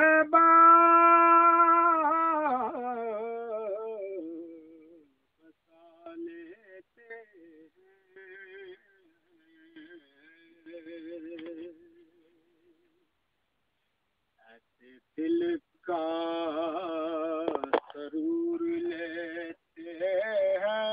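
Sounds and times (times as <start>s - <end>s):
man singing unaccompanied: 0.0s - 13.0s, 14.4s - 20.9s.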